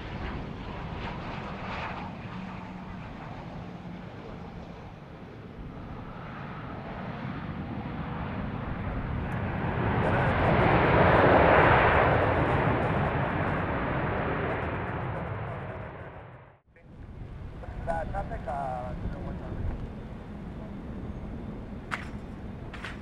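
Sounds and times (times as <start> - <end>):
jet engine noise: 0.0 - 23.0.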